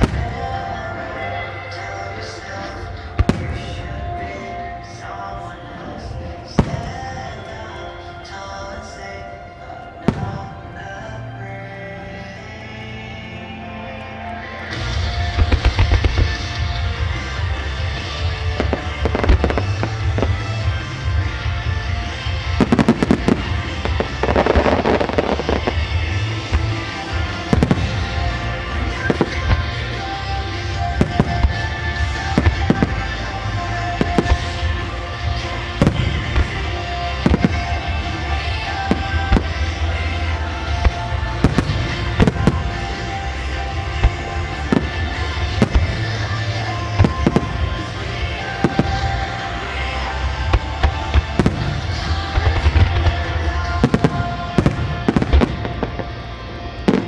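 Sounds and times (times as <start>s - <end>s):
fireworks crackling: 0.0s - 57.0s
music: 0.0s - 57.0s.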